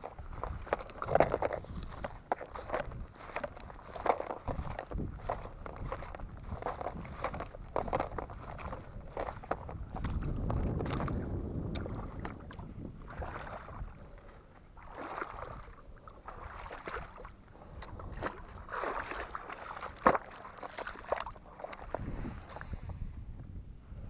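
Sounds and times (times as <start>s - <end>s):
wind on microphone: 0.0s - 20.0s, 21.2s - 24.0s
water swishing: 0.0s - 23.0s.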